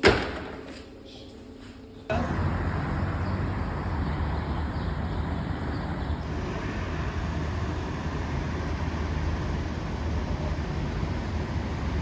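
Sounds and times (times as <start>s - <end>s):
vehicle rumble: 2.1s - 12.0s.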